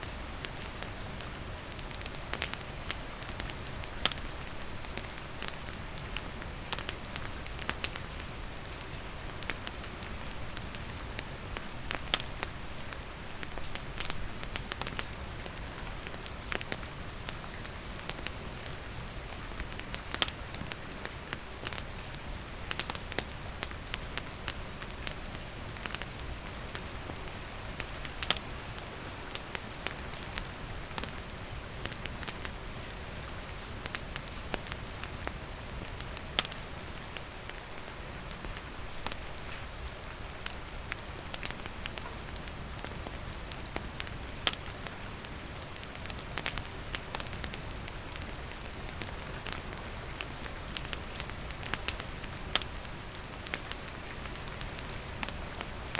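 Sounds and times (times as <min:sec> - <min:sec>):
steady rain falling: 0:00.0 - 0:55.9
campfire crackling and popping: 0:00.1 - 0:55.9.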